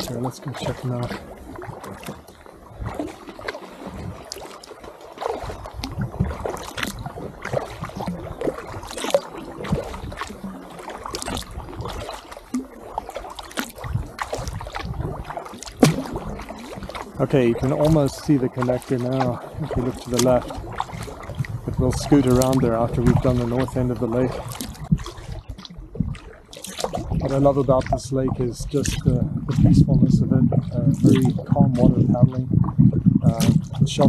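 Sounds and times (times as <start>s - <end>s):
water dripping off paddle: 0.0s - 29.9s
kayak paddle strokes in water: 0.0s - 34.0s.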